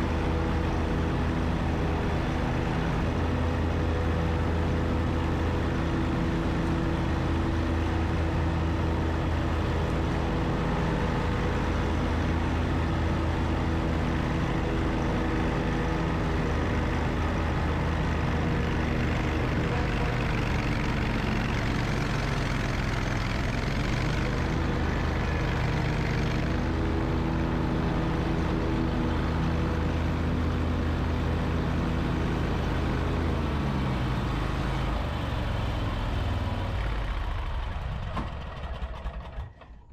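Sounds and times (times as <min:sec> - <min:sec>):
riding lawn mower engine: 0:00.0 - 0:39.9.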